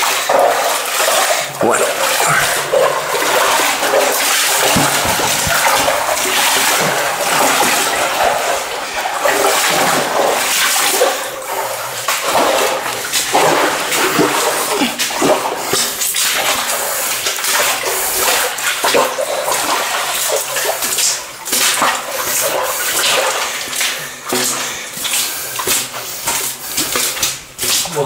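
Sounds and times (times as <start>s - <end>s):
boots wading through water: 0.0s - 28.0s.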